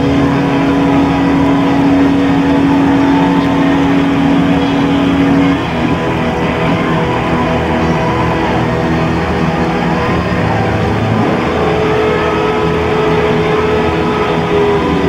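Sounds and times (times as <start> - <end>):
bass guitar: 0.0 - 15.0
distorted electric guitars: 0.0 - 15.0
drums: 0.0 - 15.0.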